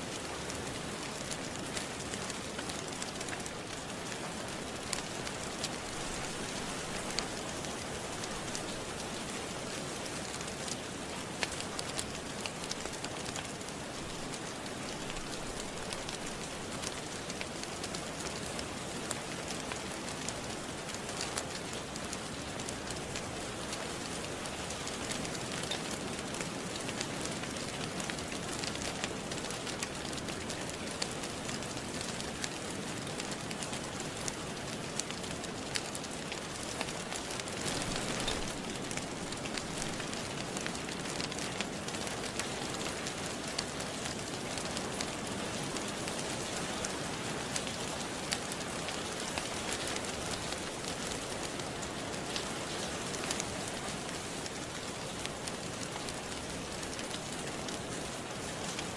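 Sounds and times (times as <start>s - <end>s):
steady rain: 0.0s - 58.9s
wood fire crackling: 0.1s - 58.9s.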